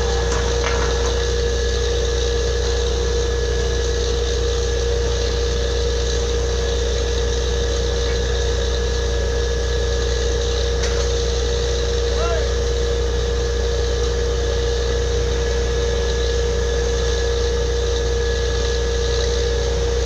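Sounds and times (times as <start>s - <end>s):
drilling rig engine droning: 0.0s - 20.0s
steady whine: 0.0s - 20.0s.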